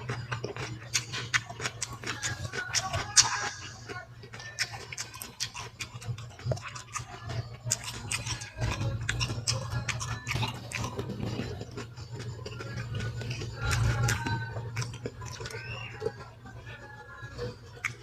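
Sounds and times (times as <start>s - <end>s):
chewing with mouth clicks and smacks: 0.0s - 18.0s.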